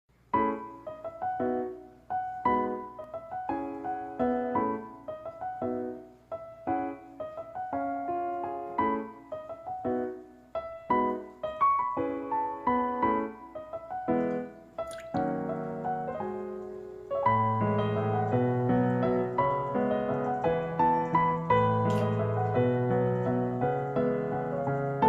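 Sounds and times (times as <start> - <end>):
piano chords and melody: 0.1 - 25.0.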